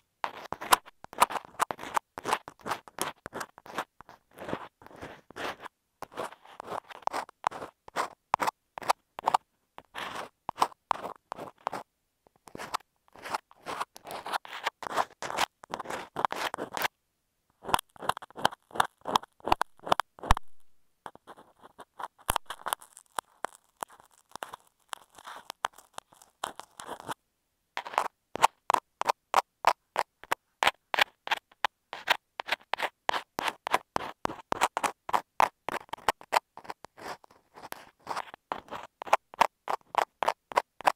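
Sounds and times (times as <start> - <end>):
scratching on microphone: 0.0 - 16.9, 17.6 - 27.2, 27.8 - 40.9.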